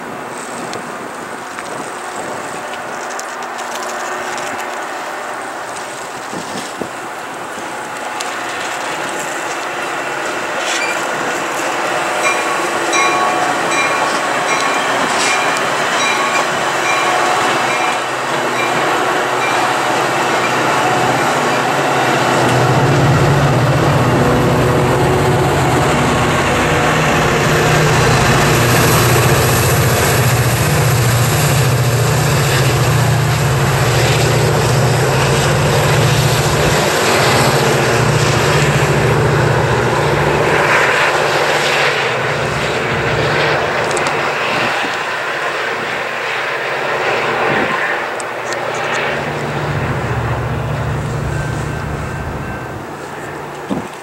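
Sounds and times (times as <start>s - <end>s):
approaching diesel locomotive hum: 0.0s - 54.0s
diesel locomotive engine under load: 0.0s - 54.0s
rolling rail noise: 0.0s - 54.0s.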